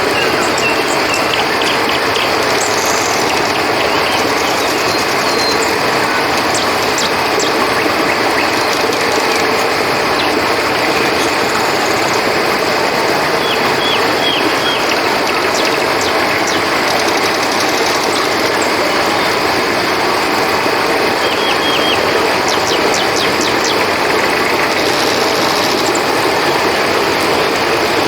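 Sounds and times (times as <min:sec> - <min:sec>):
crickets trilling: 0:00.0 - 0:28.0
flowing river water: 0:00.0 - 0:28.0.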